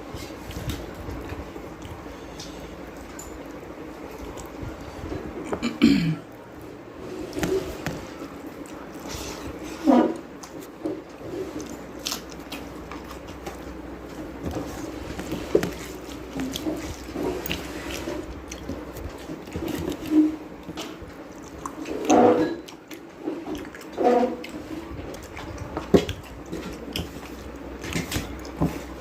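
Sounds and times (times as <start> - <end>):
chewing and wet squelching: 0.0 - 5.6, 6.2 - 29.0.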